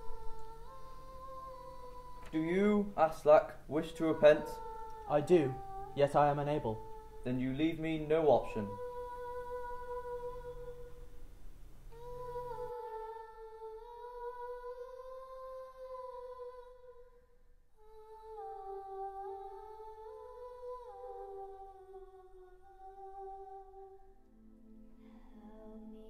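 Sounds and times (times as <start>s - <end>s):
person humming slow tune: 0.0s - 11.2s, 11.9s - 17.2s, 17.8s - 26.0s.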